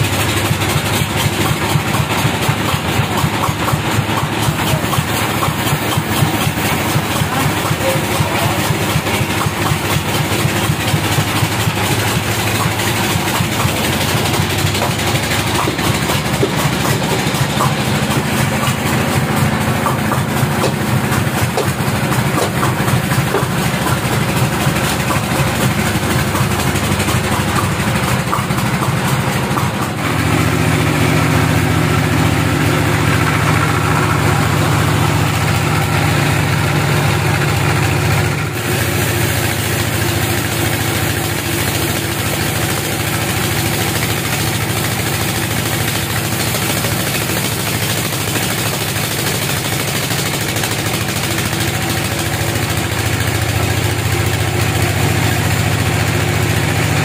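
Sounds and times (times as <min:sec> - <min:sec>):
band sawmill humming: 0:00.0 - 0:57.0.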